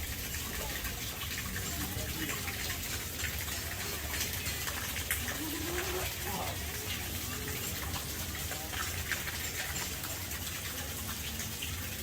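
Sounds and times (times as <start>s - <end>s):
faint voices: 0.0s - 12.0s
rushing water: 0.0s - 12.0s.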